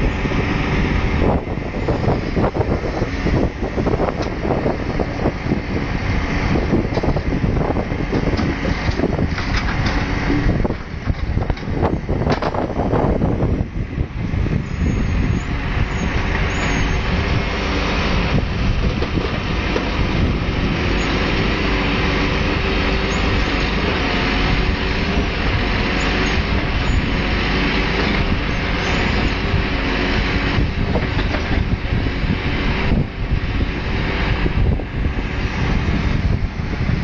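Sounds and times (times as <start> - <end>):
lorry diesel engine running: 0.0 - 37.0.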